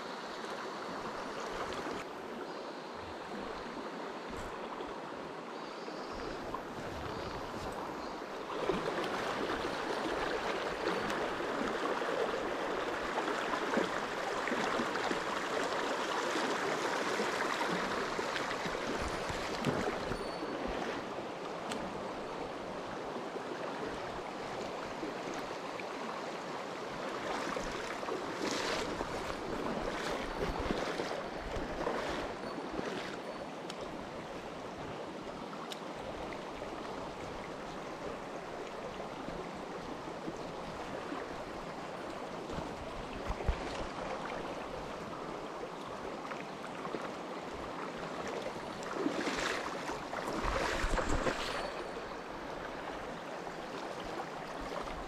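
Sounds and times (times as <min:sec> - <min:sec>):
stream rushing over stones: 0:06.7 - 0:55.0.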